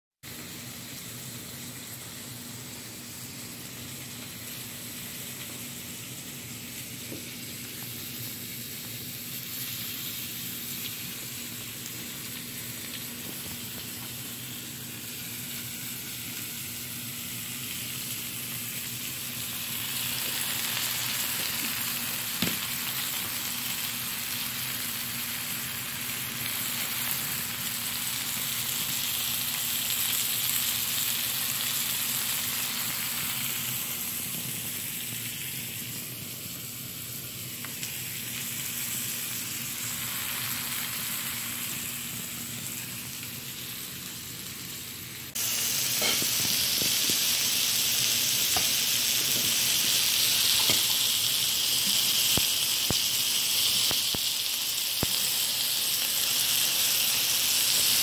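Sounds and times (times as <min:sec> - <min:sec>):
food sizzling on a griddle: 0:00.2 - 0:58.0.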